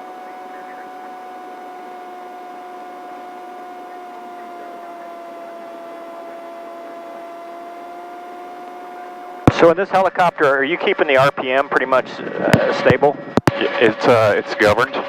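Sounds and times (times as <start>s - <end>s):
helicopter cabin whine: 0.0s - 15.0s.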